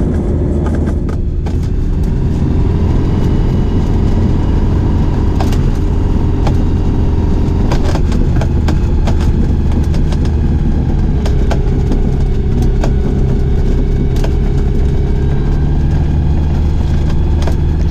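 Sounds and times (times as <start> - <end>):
aircraft engine and propeller running: 0.0 - 17.9
knocks and rattles: 0.0 - 17.9.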